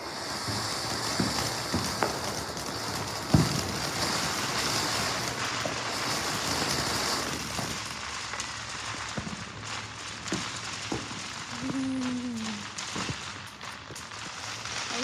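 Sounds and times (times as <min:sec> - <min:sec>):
fountain firework hissing crackle: 0:00.0 - 0:15.0.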